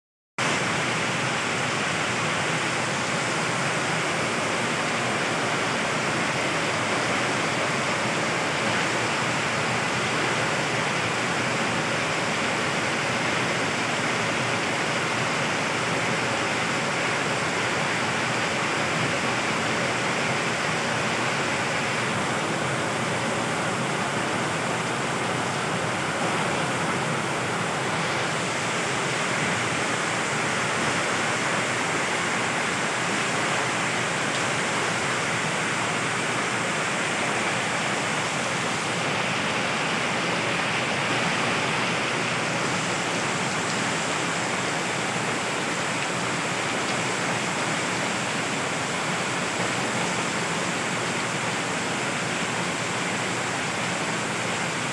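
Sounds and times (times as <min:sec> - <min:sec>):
heavy rain pouring: 0:00.4 - 0:54.9.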